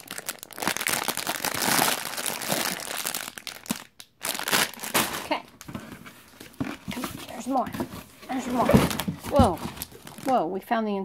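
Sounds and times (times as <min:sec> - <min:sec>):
plastic bags crinkling: 0:00.0 - 0:10.5.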